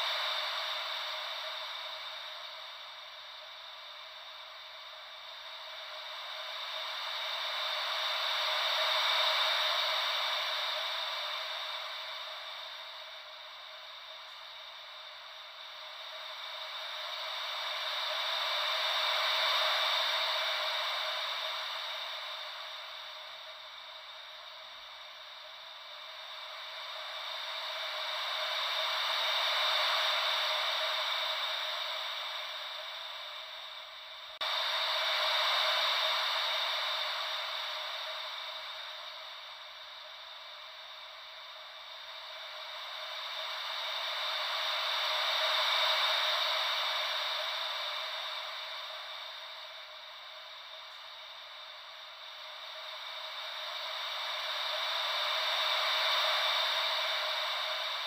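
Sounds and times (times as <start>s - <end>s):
ocean wave white noise: 0.0s - 58.0s.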